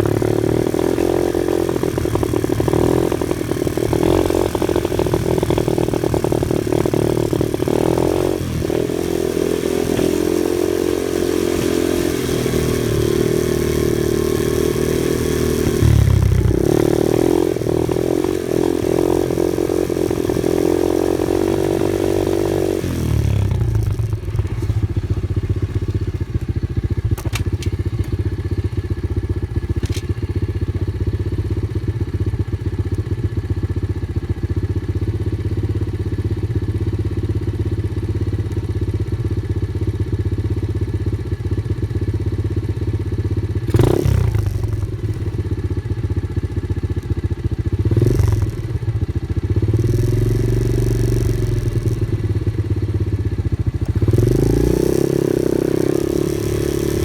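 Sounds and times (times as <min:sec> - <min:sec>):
off-road vehicle engine: 0:00.0 - 0:57.0.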